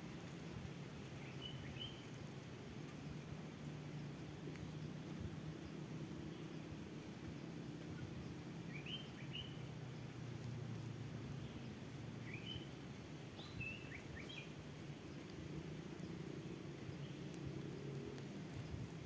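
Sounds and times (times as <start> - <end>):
small birds chirping: 0.3 - 19.0.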